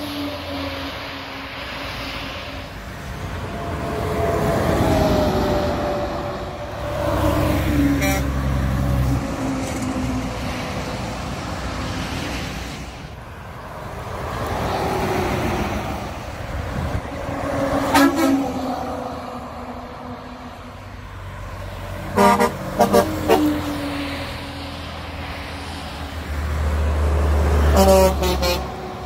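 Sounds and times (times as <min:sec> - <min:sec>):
diesel trucks passing: 0:00.0 - 0:29.0.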